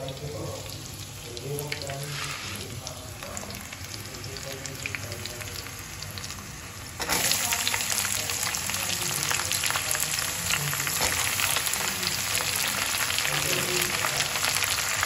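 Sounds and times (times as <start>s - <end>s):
onions sizzling with pops: 0.0s - 15.0s
spices sizzling in hot oil: 0.0s - 15.0s.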